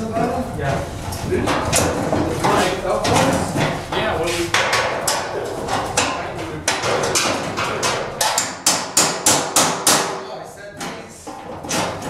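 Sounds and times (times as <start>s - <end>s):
metal panels knocking and clanking: 0.2s - 12.0s.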